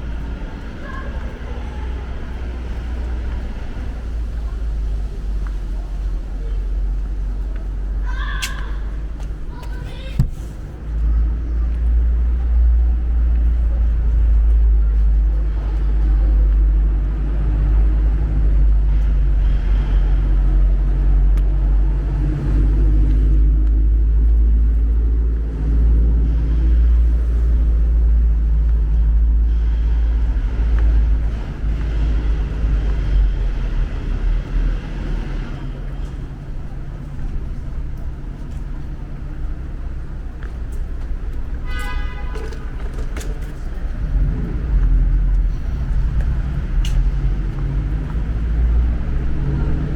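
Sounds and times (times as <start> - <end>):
street traffic rumble: 0.0 - 49.9.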